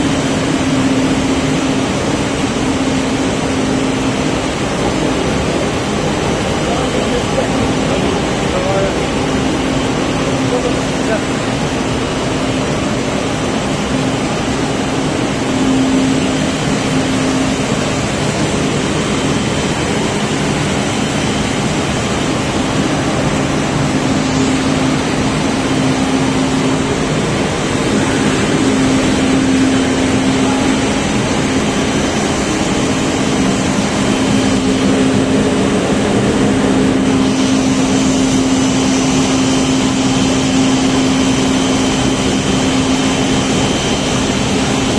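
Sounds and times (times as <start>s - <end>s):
machinery running with hum: 0.0s - 44.9s.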